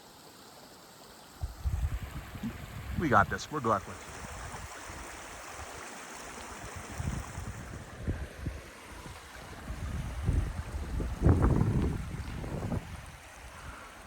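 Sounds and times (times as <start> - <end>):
creek rushing: 0.0 - 14.0
wind buffeting microphone: 1.4 - 5.9, 6.5 - 14.0.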